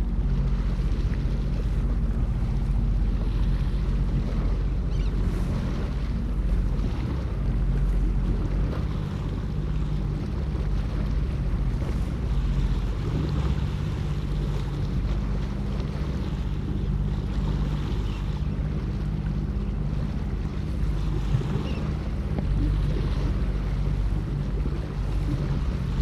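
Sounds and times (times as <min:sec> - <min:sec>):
jet ski engine humming: 0:00.0 - 0:26.0
water washing against hull: 0:00.0 - 0:26.0.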